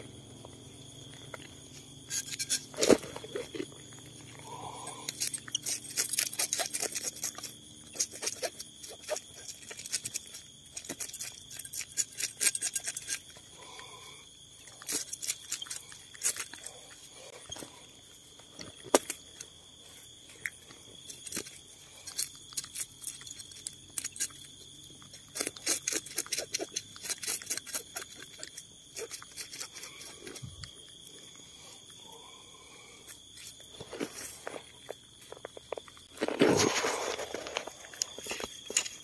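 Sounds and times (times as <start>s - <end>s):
night insects droning: 0.0s - 39.0s.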